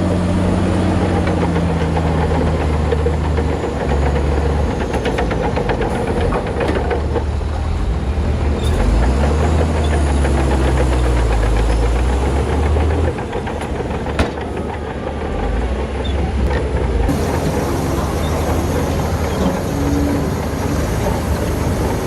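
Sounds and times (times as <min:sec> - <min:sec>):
bulldozer diesel engine rumbling: 0:00.0 - 0:22.0.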